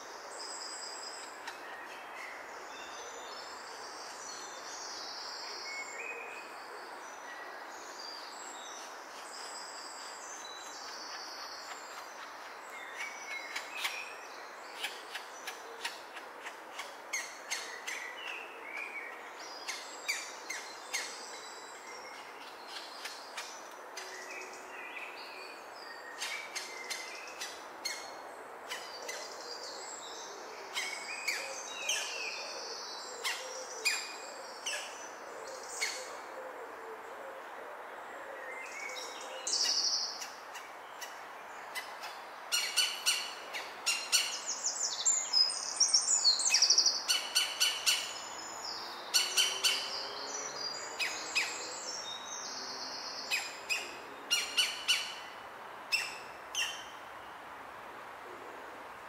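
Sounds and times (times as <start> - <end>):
background hiss: 0.0 - 59.0.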